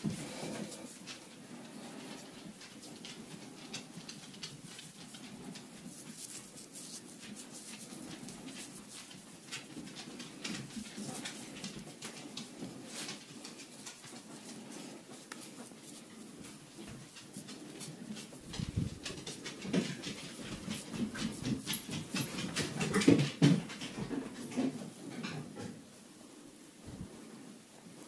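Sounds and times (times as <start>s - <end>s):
fingers rubbing skin and hair: 0.0s - 23.2s.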